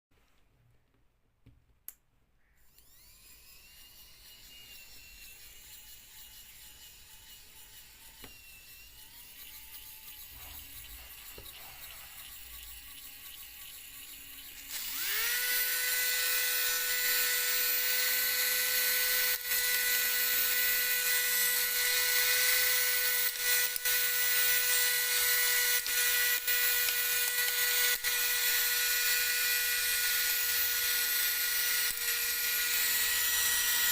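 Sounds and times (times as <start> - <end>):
small electric motor whining: 2.6 - 33.9.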